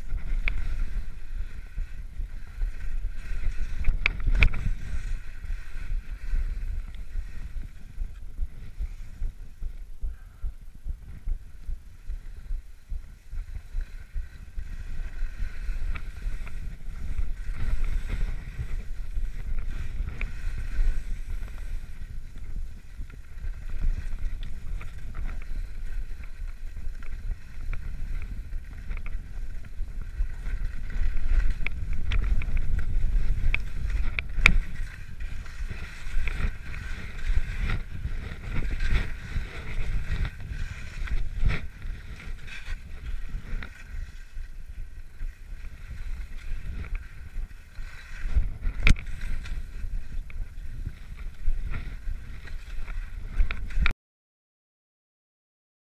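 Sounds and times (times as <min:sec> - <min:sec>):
skis running over snow: 0:00.0 - 0:53.9
wind buffeting microphone: 0:00.0 - 0:53.9.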